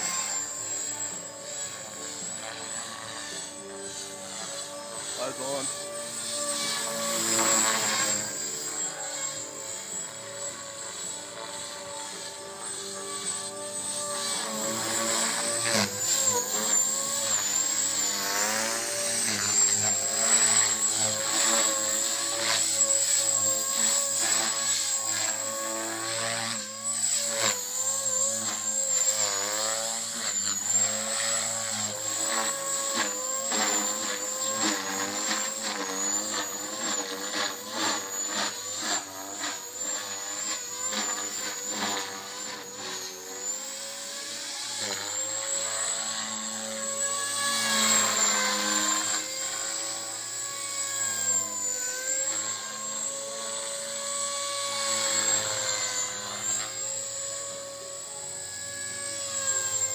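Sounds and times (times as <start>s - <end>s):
rc helicopter motor and rotor: 0.0s - 59.9s.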